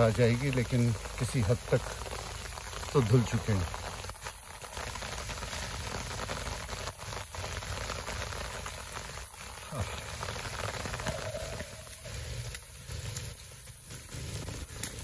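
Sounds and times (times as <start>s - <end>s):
rain on leaves and ground: 0.0s - 15.0s.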